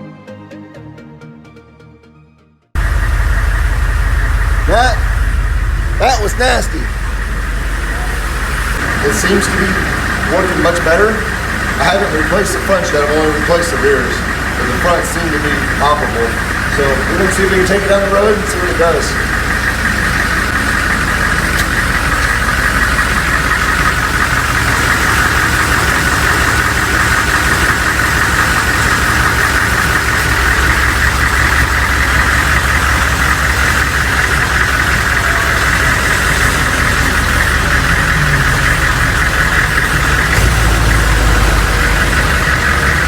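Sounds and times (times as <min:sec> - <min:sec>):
diesel engine running: 0:02.8 - 0:43.0.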